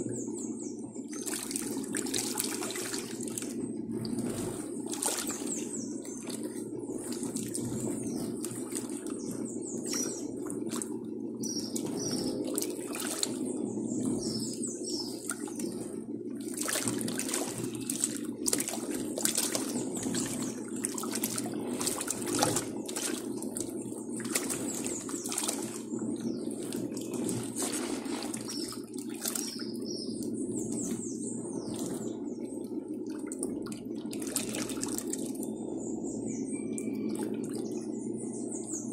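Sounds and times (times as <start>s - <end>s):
washing machine motor humming: 0.0s - 38.9s
water splashing and sloshing: 0.0s - 38.9s.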